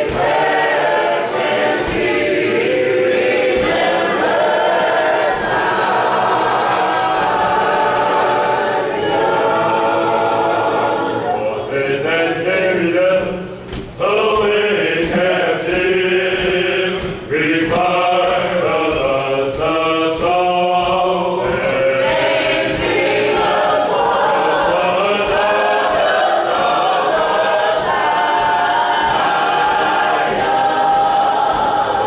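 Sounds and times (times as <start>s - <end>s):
church choir singing: 0.0s - 32.0s.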